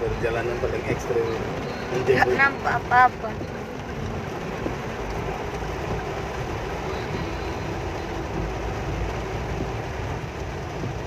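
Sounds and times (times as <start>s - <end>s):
heavy rain: 0.0s - 11.0s
road noise: 0.0s - 11.0s.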